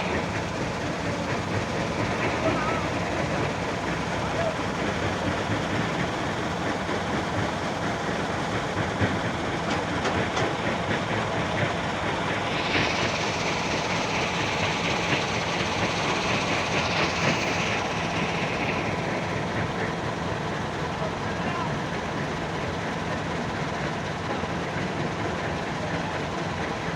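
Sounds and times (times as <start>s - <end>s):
hiss: 0.0s - 22.7s
diesel machinery running: 0.0s - 26.9s.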